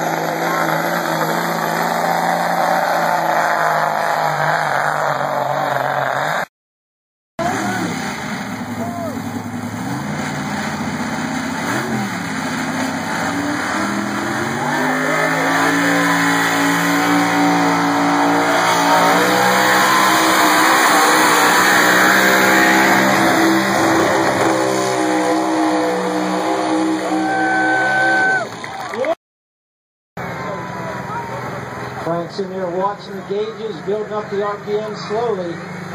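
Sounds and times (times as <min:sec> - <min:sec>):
truck engine at full throttle: 0:00.0 - 0:06.4, 0:07.4 - 0:28.5, 0:30.2 - 0:35.9.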